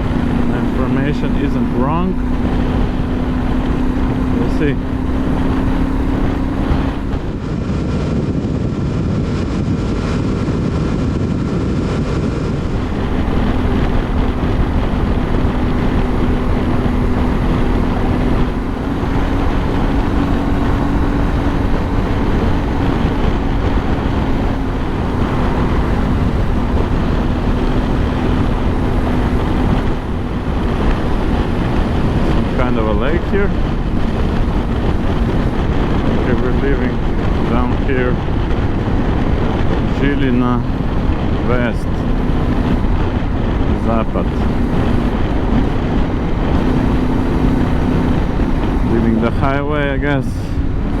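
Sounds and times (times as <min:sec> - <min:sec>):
motorcycle engine cruising: 0:00.0 - 0:51.0
road noise: 0:00.0 - 0:51.0
wind noise: 0:00.0 - 0:51.0.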